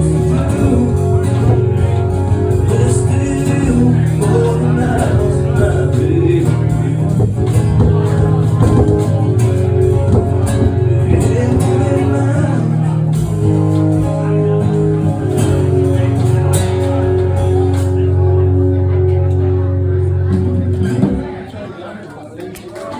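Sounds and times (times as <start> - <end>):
held low notes: 0.0 - 21.6
guitar music: 0.0 - 21.7.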